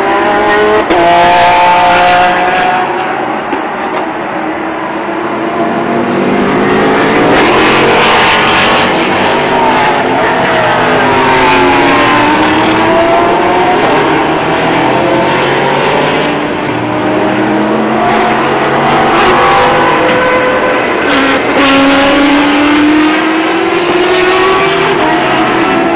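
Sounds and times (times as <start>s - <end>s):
race cars passing at speed: 0.0s - 25.9s.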